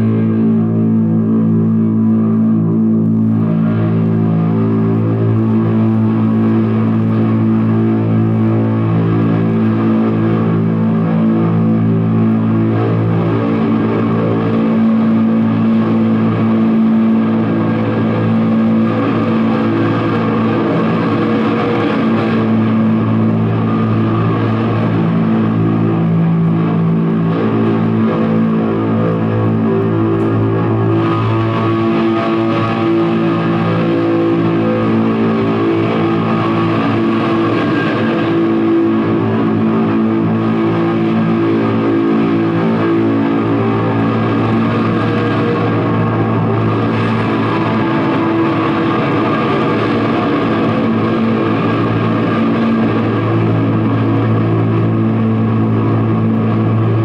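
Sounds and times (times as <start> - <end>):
droning noise music: 0.0 - 57.0.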